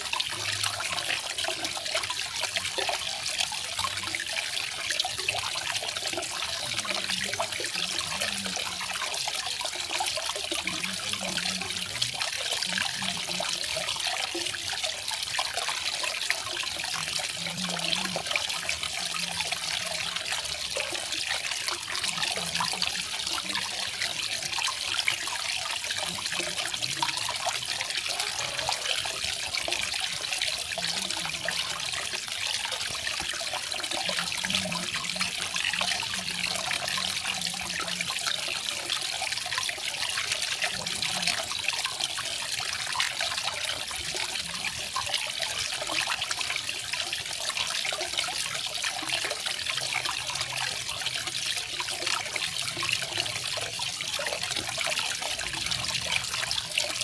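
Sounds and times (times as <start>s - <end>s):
waterfall splashing and trickling: 0.0s - 57.0s.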